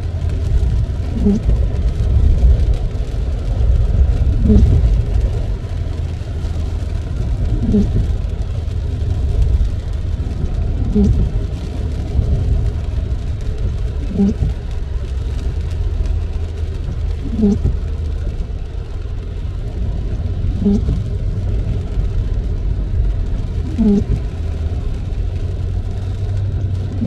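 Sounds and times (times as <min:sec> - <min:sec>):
car cabin road and engine rumble: 0:00.0 - 0:27.0
wiper blades dragging groan: 0:00.0 - 0:27.0.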